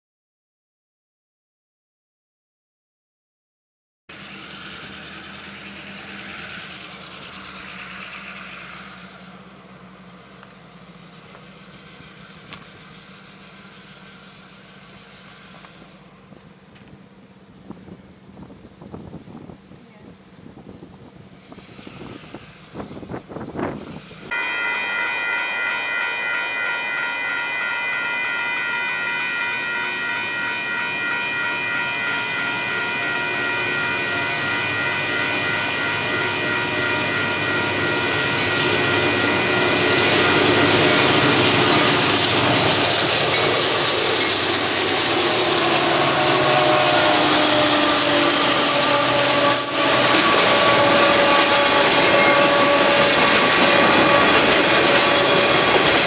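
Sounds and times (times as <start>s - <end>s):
railroad crossing bell ringing: 4.1s - 18.2s, 20.2s - 56.0s
freight train rumbling past: 4.1s - 56.0s.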